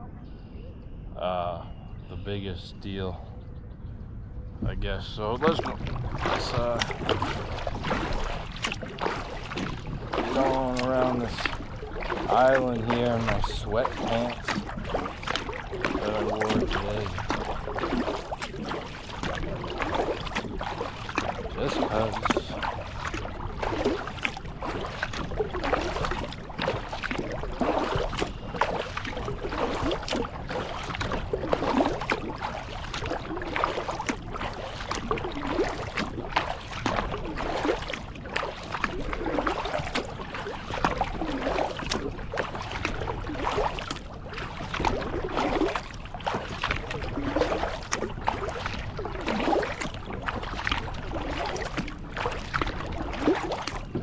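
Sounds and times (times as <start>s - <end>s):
kayak paddle splashing: 4.7s - 54.0s.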